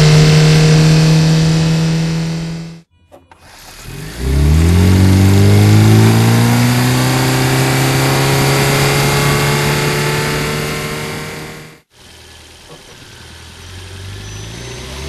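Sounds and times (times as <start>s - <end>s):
car accelerating with drivetrain drone: 0.0s - 15.0s.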